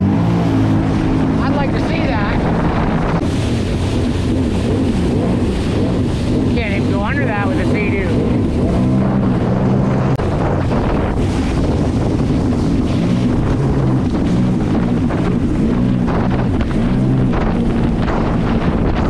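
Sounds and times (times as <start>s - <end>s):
watercraft engine running: 0.0s - 19.0s
wind on microphone: 0.0s - 19.0s.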